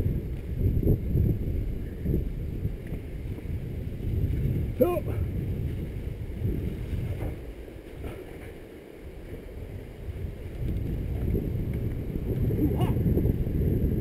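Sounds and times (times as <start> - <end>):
low rumble of fast travel: 0.0 - 14.0
wind buffeting microphone: 0.0 - 14.0.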